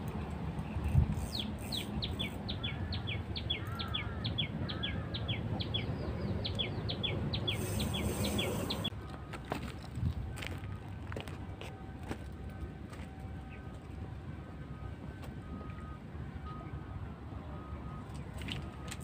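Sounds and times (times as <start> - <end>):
low rumble of wind: 0.0 - 19.0.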